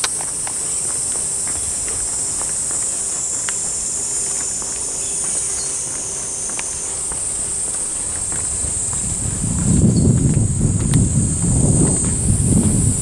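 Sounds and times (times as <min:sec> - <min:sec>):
faint ticks: 0:00.0 - 0:12.9
cicadas shrilling: 0:00.0 - 0:13.0.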